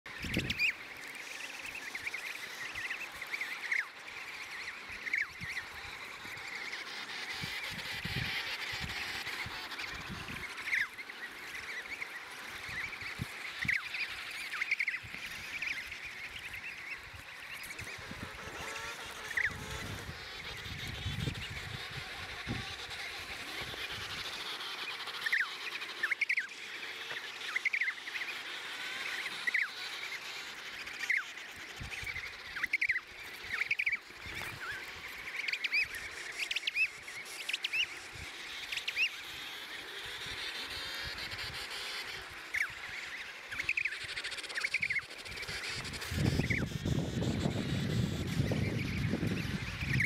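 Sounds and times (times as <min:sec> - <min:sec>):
din of distant penguin calls: 0:00.1 - 0:50.0.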